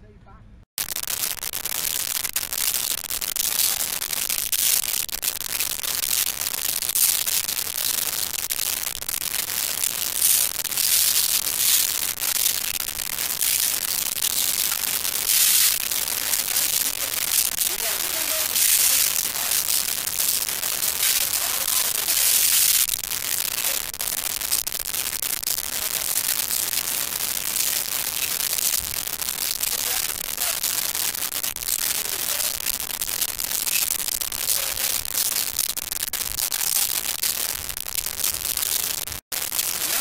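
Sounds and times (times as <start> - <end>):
crackling hiss: 0.8 - 40.0.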